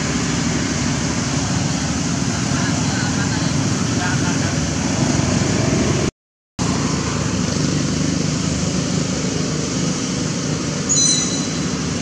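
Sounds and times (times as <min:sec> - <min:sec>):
roadside traffic rumbling hiss: 0:00.0 - 0:12.0.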